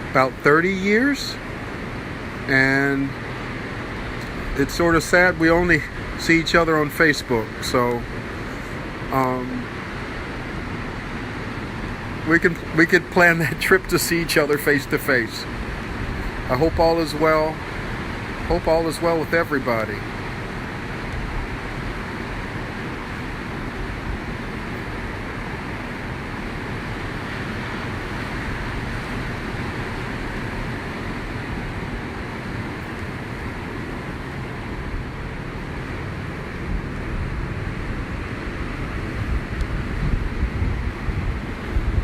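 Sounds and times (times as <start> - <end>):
ocean surf rushing: 0.0 - 42.0
wind buffeting microphone: 0.7 - 42.0.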